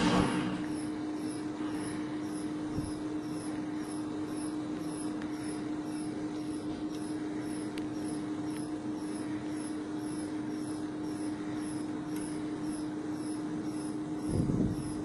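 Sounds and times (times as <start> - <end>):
testing machine humming: 0.0 - 15.0.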